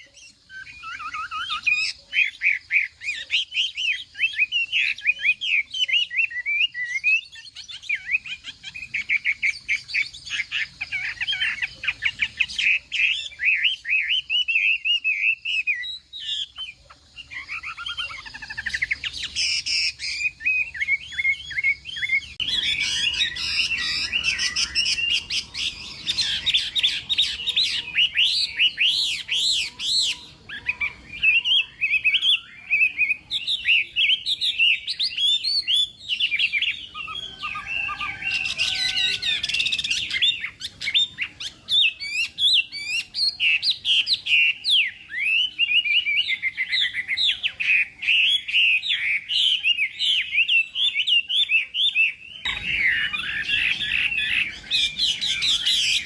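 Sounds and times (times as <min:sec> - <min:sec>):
bird singing whistled song: 0:00.0 - 0:56.0.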